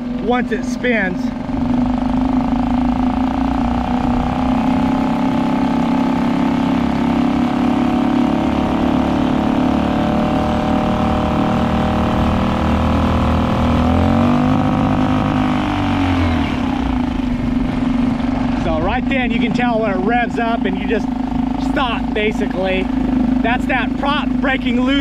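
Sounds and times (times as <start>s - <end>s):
outboard motor revving sharply: 0.0s - 25.0s
outboard motor running: 0.0s - 25.0s.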